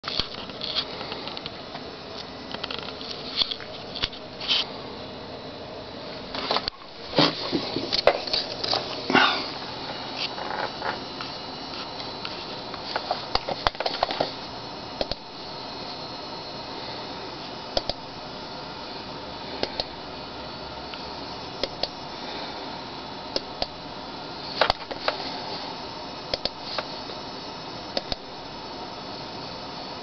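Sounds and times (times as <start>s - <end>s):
steady hiss: 0.2s - 30.0s.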